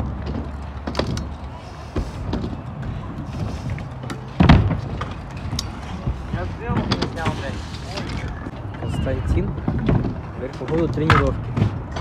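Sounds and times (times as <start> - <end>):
scooter clattering on concrete: 2.0 - 12.0.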